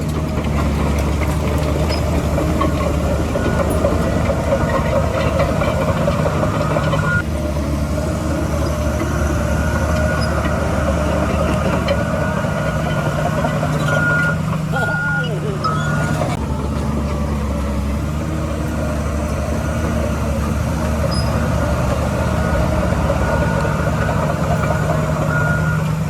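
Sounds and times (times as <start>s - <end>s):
heavy diesel machinery droning: 0.0s - 26.0s.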